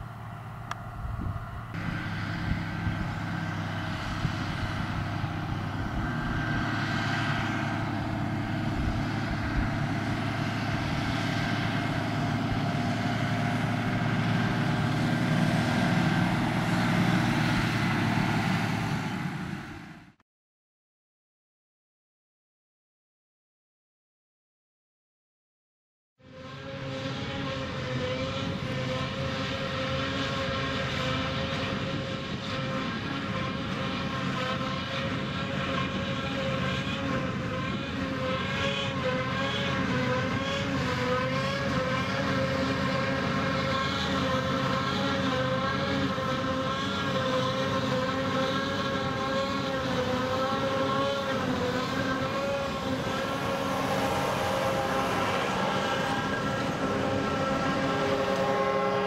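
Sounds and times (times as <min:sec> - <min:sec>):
harvester machine drone: 0:00.0 - 0:20.2, 0:26.2 - 0:59.0.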